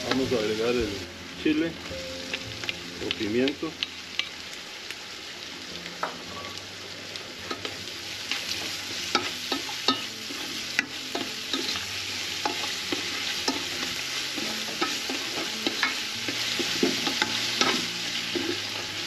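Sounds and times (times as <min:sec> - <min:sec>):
peppers sizzling in a pot: 0:00.0 - 0:19.0.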